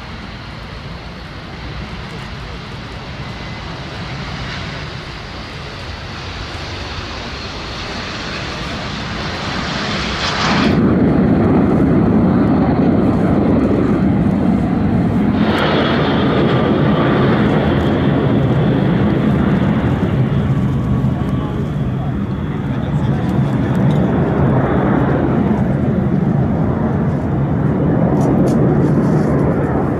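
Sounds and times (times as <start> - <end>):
jet engines hissing whine: 0.0 - 29.9
jets flying over rumble: 0.0 - 29.9.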